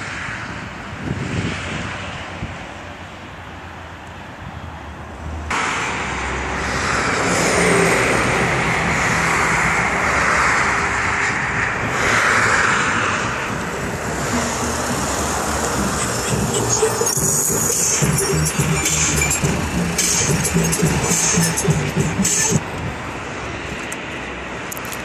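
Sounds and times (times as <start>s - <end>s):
motorway traffic passing: 0.0s - 25.0s.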